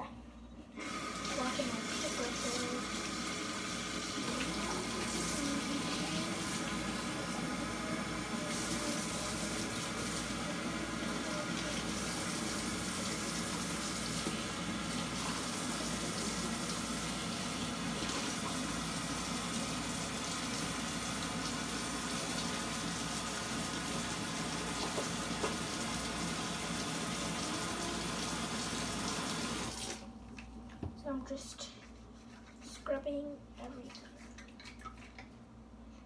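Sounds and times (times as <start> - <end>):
faucet running into a sink: 0.8 - 30.0.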